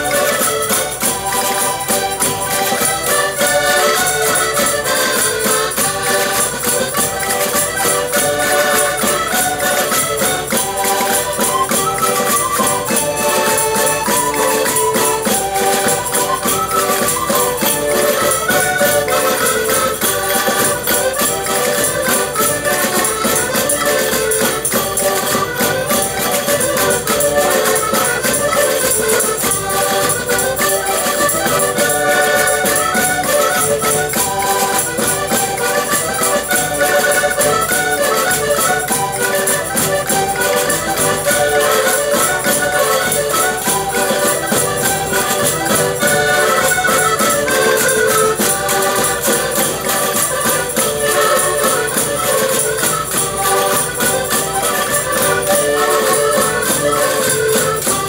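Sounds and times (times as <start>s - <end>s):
concertinas playing folk tune: 0.0s - 58.0s
tambourine jingles: 0.0s - 58.0s.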